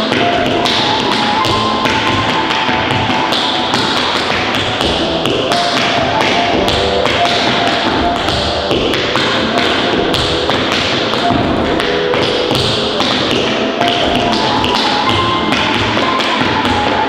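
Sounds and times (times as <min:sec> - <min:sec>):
tap shoes on wooden floor: 0:00.0 - 0:17.0.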